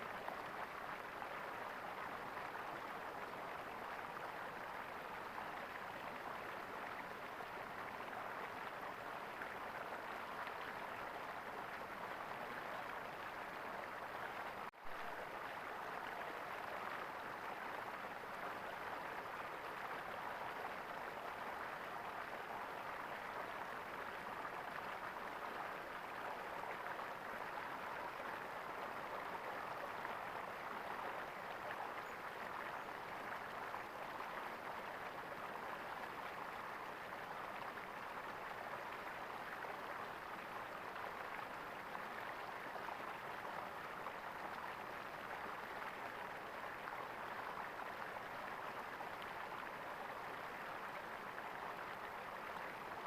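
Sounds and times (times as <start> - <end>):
stream water gurgling: 0.0 - 53.0.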